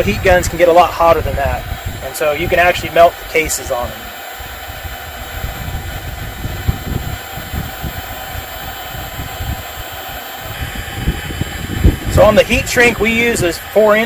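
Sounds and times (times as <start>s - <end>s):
heat gun fan blowing: 0.0s - 14.0s
wind buffeting the microphone: 0.0s - 14.0s.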